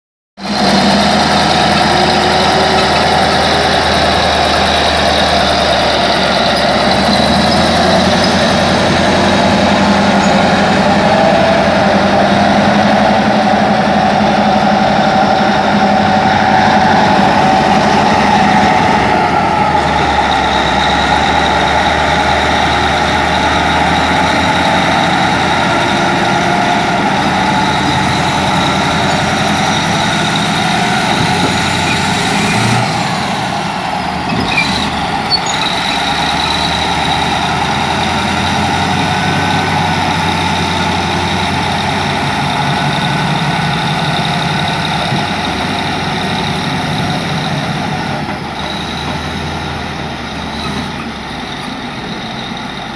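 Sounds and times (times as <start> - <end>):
high whine: 0.4 - 49.1
diesel engine idling: 0.4 - 52.9.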